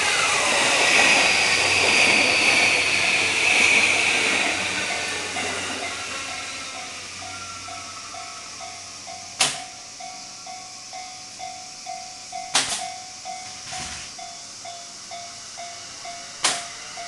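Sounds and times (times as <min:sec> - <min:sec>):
level crossing alarm clanging: 0:02.4 - 0:17.0.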